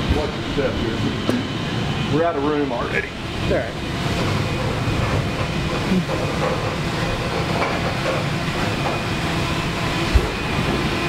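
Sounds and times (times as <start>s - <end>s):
ventilation and machinery hum: 0.0s - 11.0s.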